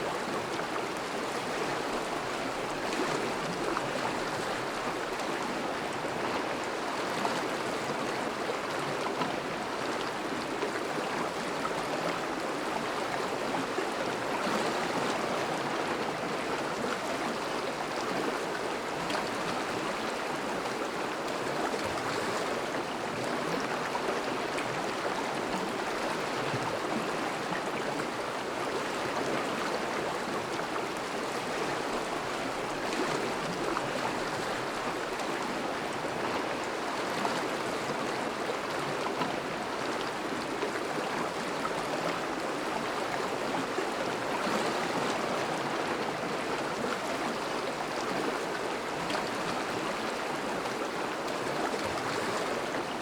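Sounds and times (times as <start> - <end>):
river water rushing and babbling: 0.0 - 53.0.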